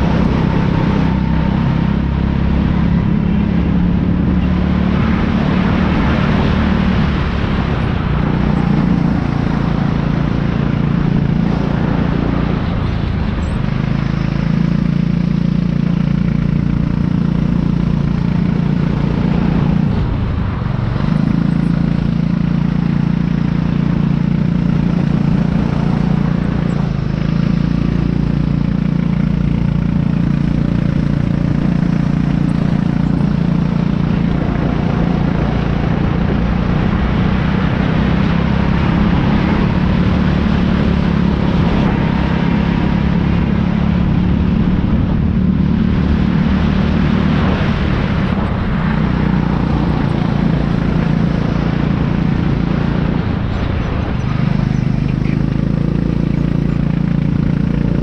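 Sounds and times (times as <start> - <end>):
kart engine at high revs: 0.0 - 58.0.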